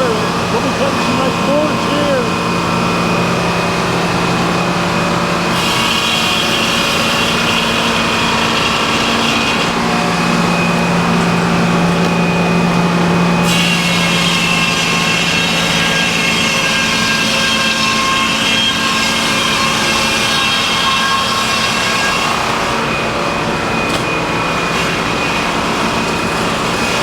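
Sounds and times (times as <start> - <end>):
sawmill engine drone: 0.0 - 27.0.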